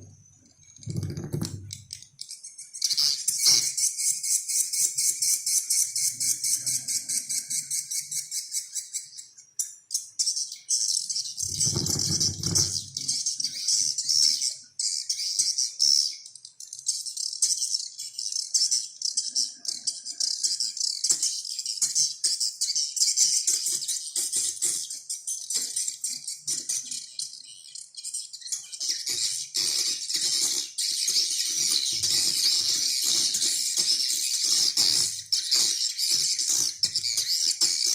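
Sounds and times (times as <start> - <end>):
many birds twittering: 0.0 - 37.9.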